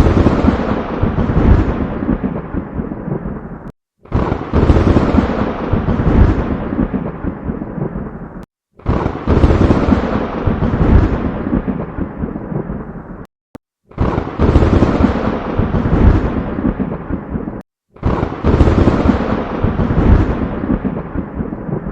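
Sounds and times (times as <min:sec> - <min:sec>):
lightning crack and rolling thunder: 0:00.0 - 0:13.3, 0:13.9 - 0:21.9.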